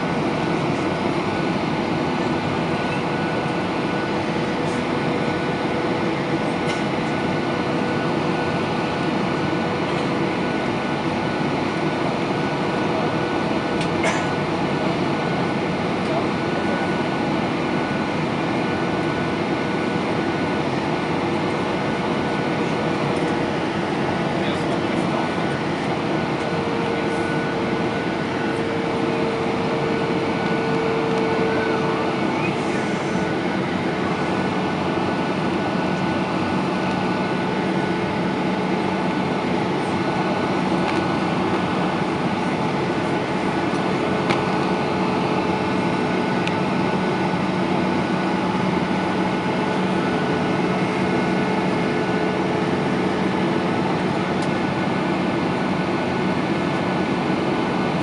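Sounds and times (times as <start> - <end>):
faint constant engine tones: 0.0 - 58.0
jet engine hum: 0.0 - 58.0.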